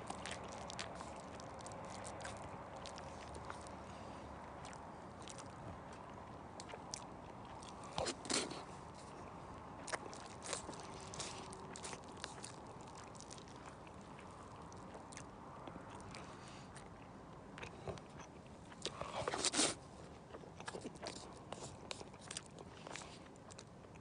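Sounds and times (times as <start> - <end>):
person crunching and chewing: 0.0 - 4.0, 4.6 - 9.2, 9.8 - 24.0.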